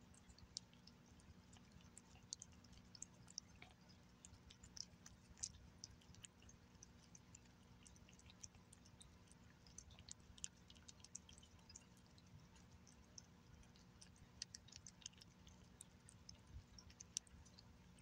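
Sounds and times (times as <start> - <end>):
cat licking and chewing: 0.0 - 18.0.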